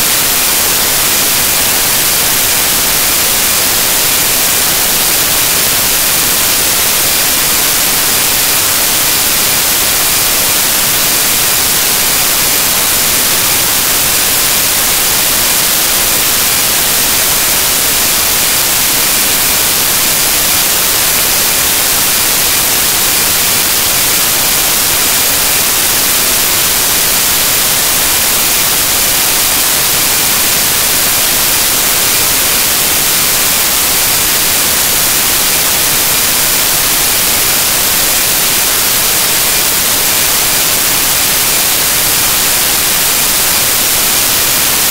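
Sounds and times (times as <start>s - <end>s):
loud static hiss: 0.0s - 44.9s.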